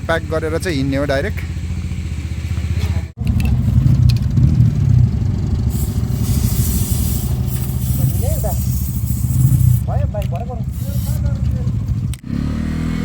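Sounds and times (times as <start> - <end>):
motorcycle engine idling: 0.0 - 12.3.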